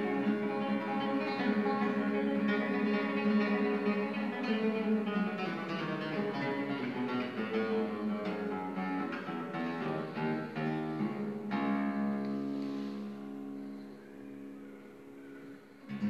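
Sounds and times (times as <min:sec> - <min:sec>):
classical guitar playing: 0:00.0 - 0:16.0.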